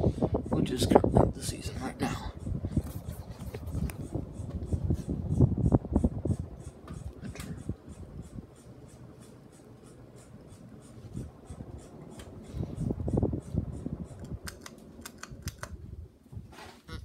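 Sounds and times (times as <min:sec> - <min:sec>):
ceiling fan rumbling: 0:00.0 - 0:17.0.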